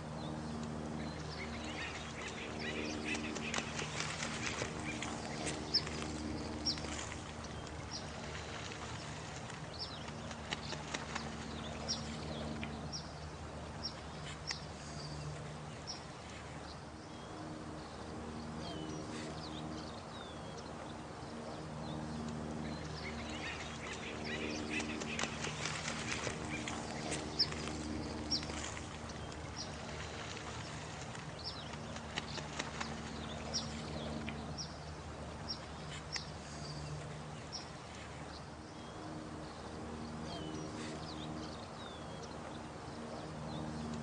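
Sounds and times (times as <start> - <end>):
running water: 0.0 - 44.0.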